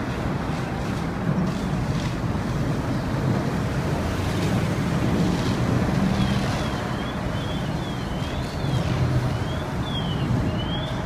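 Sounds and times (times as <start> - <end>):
fire engines running: 0.0 - 11.0.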